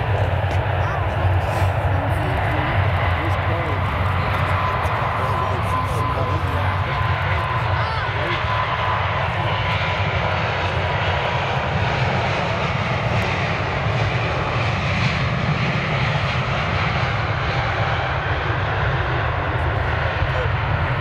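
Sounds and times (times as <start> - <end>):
jet engines roaring at take-off: 0.0 - 21.0.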